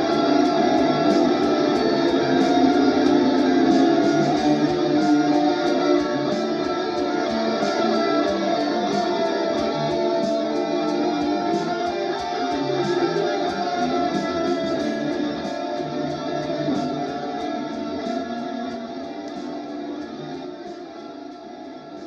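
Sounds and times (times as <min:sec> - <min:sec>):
drum machine beat: 0:00.0 - 0:22.0
electric guitar improvising: 0:00.0 - 0:22.0.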